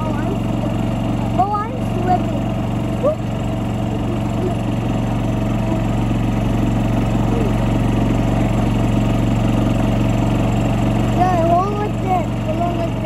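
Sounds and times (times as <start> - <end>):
golf cart motor hum: 0.0 - 13.0.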